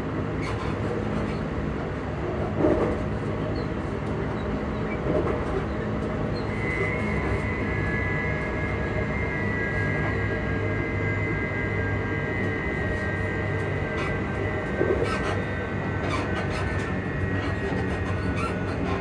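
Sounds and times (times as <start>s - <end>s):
train wheels rumbling: 0.0s - 19.0s
traction motor hum: 2.6s - 19.0s.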